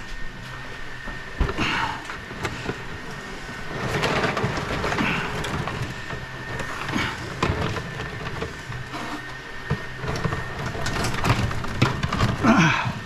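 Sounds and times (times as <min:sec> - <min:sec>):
wires rattling in plastic tub: 0:01.4 - 0:13.0.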